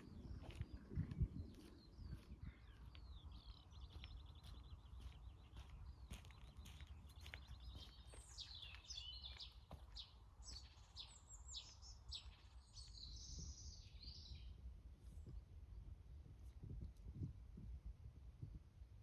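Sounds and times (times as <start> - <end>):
songbird singing faintly: 0.0 - 15.9
low steady wind rumble: 0.0 - 19.0.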